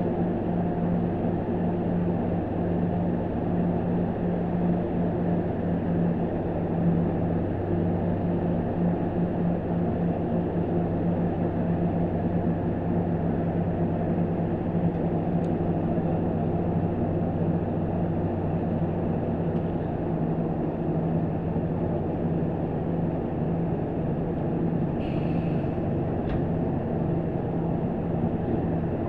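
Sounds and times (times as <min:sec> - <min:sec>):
diesel train engine idling: 0:00.0 - 0:29.0.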